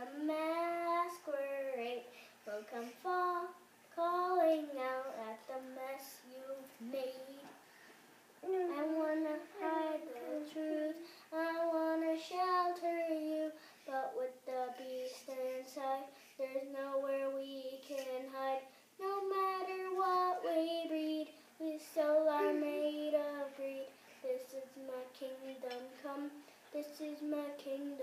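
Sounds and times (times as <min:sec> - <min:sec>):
boy singing unaccompanied: 0:00.0 - 0:07.6, 0:08.4 - 0:28.0.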